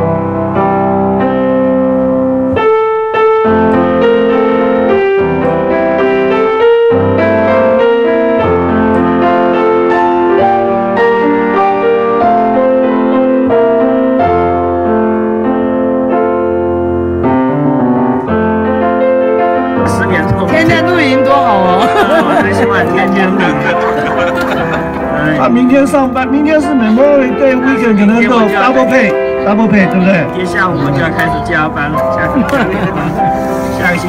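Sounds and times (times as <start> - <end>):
instrumental piano music: 0.0 - 34.0.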